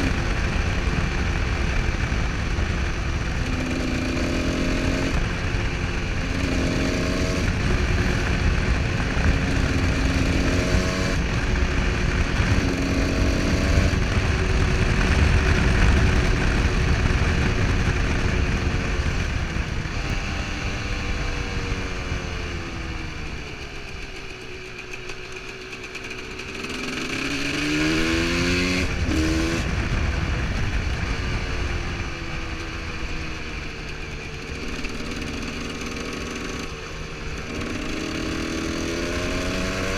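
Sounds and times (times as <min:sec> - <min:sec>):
wind rush: 0:00.0 - 0:24.1, 0:26.4 - 0:39.9
motorcycle engine revving: 0:00.0 - 0:39.9.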